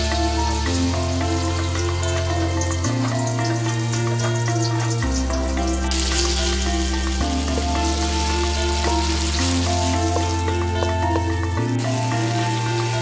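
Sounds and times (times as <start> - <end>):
background music: 0.0 - 13.0
paste sizzling in hot oil: 0.0 - 13.0.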